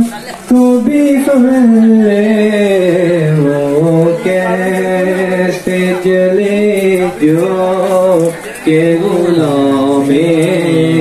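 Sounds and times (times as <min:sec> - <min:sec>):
man singing devotional poem: 0:00.0 - 0:11.0.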